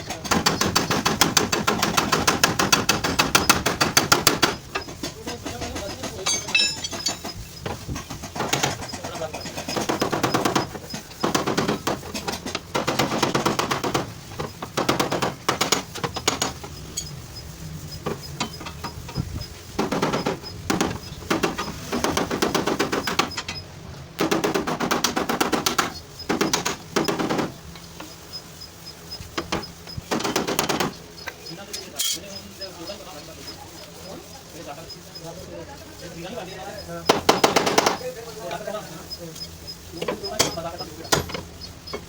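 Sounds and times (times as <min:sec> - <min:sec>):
hammering on sheet metal: 0:00.1 - 0:19.0, 0:19.8 - 0:23.4, 0:24.2 - 0:27.6, 0:29.3 - 0:35.4, 0:36.1 - 0:39.1.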